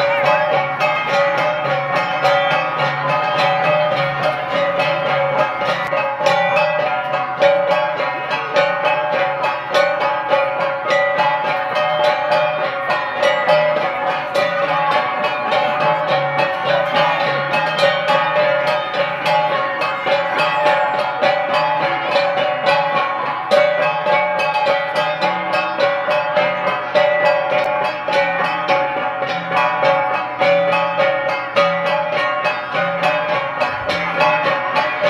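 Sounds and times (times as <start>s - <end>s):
bronze gongs struck in rhythm: 0.0s - 35.0s.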